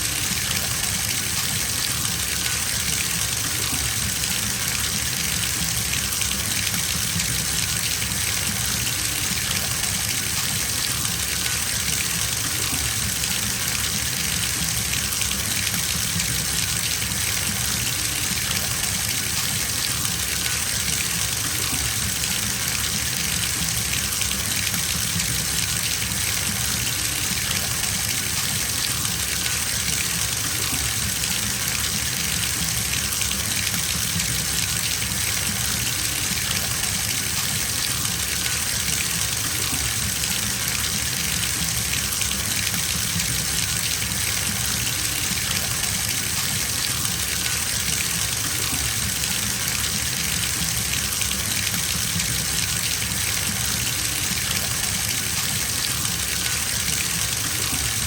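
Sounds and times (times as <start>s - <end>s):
water running into bathtub: 0.0s - 58.0s.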